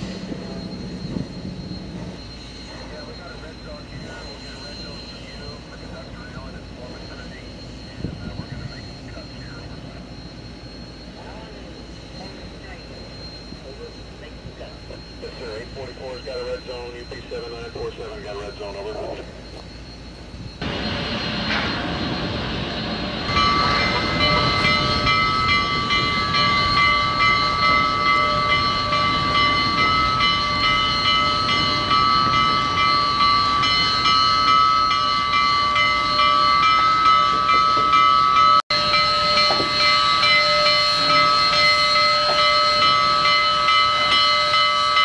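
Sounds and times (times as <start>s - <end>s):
locomotive rumbling past: 0.0s - 45.0s
steam locomotive chime whistle: 0.0s - 45.0s.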